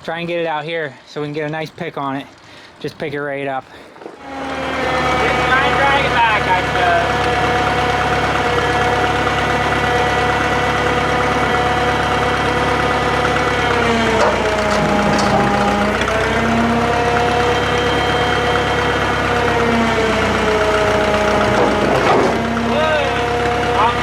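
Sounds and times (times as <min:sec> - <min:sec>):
crane engine running: 0:04.2 - 0:24.0
low hum: 0:04.2 - 0:24.0.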